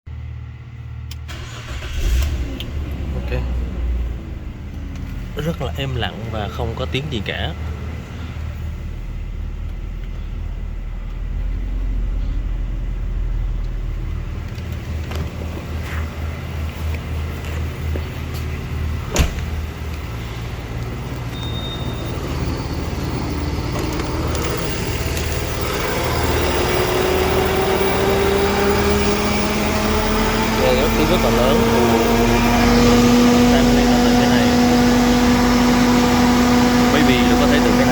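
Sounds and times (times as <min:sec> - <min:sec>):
car engine idling: 0:00.1 - 0:37.9
cooling fan whirring: 0:00.5 - 0:37.9.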